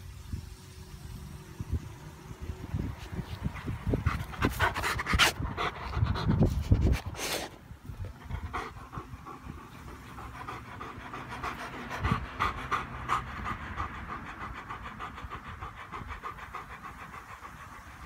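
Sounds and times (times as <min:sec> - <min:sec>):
dog panting rapidly: 0:03.0 - 0:18.0.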